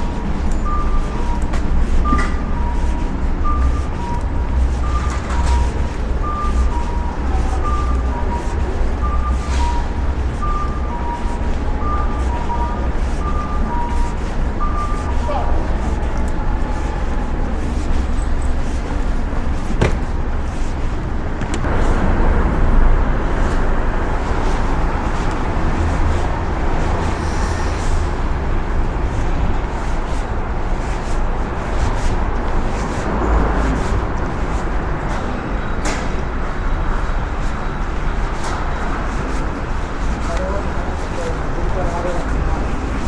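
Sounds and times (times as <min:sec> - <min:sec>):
road and engine noise: 0:00.0 - 0:43.0.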